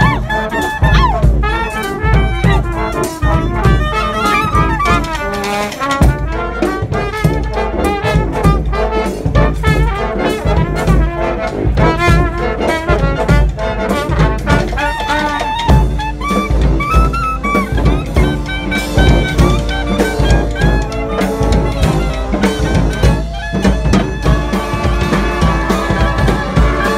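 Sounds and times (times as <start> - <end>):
brass band horns melody: 0.0 - 26.9
steady drum beat: 0.0 - 26.9.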